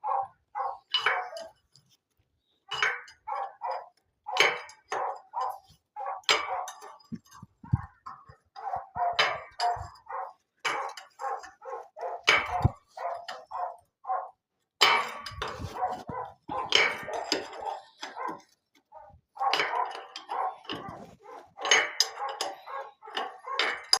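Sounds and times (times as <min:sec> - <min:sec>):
dog barking: 0:00.0 - 0:01.5, 0:03.2 - 0:07.0, 0:08.6 - 0:14.4, 0:15.4 - 0:24.0.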